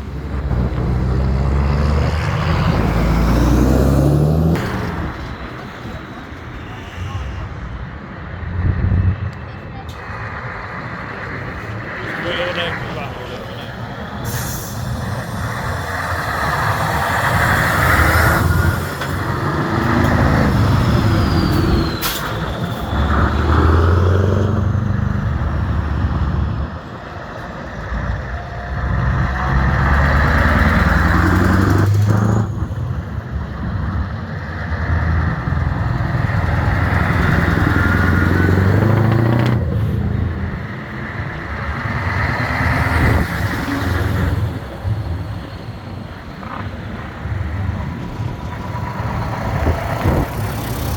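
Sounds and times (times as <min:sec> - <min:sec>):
truck engines accelerating: 0:00.0 - 0:50.9.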